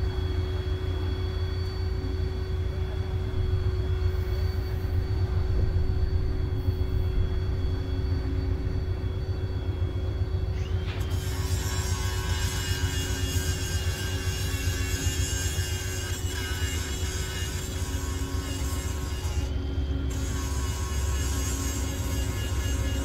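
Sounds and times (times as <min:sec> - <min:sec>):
diesel locomotive engine rumble: 0:00.0 - 0:23.0
faint steady whine: 0:00.0 - 0:23.0.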